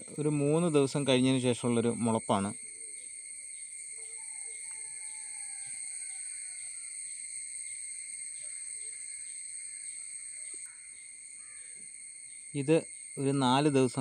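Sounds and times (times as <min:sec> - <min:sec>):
crickets buzzing: 0:00.0 - 0:14.0.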